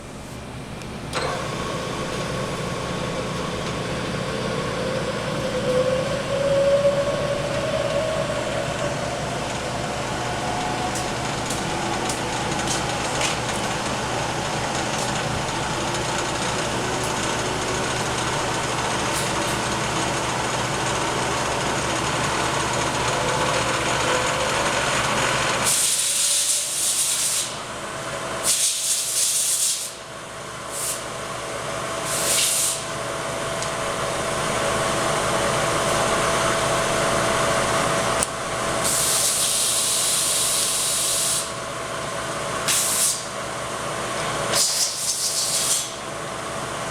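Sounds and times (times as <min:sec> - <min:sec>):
milling machine motor whine: 0:00.0 - 0:26.8, 0:32.8 - 0:46.9.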